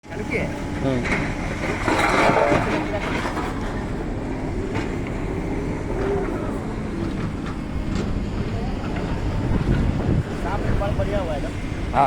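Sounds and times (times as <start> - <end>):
industrial machinery rumble: 0.0 - 12.0.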